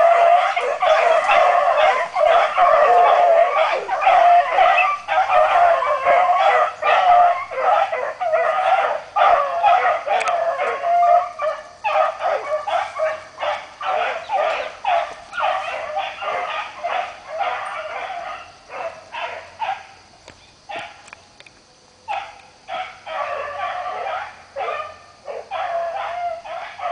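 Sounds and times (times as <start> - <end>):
dogs baying and yelping: 0.0 - 19.9, 22.1 - 26.9.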